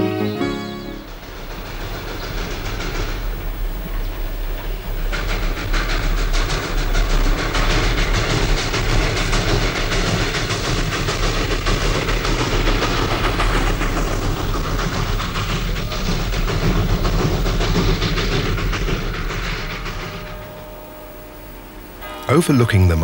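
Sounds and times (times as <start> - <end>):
train wheels clattering on rails: 0.0 - 23.0.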